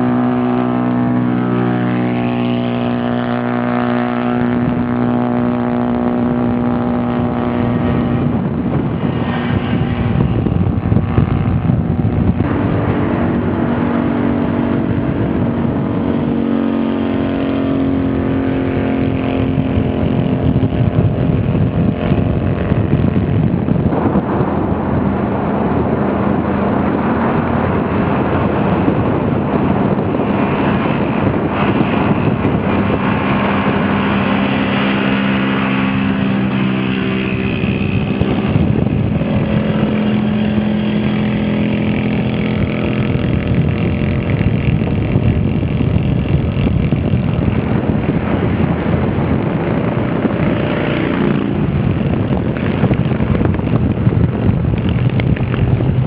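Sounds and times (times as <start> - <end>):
motorcycle engine at speed: 0.0 - 56.0
wind rush on microphone: 0.0 - 56.0.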